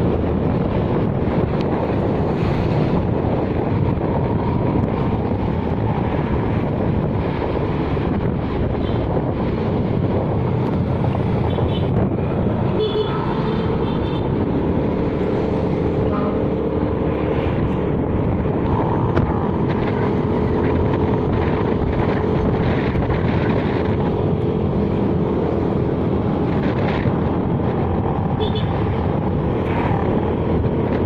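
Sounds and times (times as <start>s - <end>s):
road noise: 0.0s - 31.0s
vehicle engine: 0.0s - 31.0s
wind rumbling on microphone: 0.0s - 31.0s.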